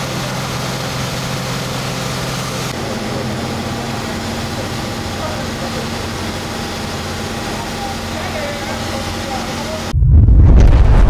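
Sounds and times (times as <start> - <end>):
fire engine pump humming: 0.0 - 10.0.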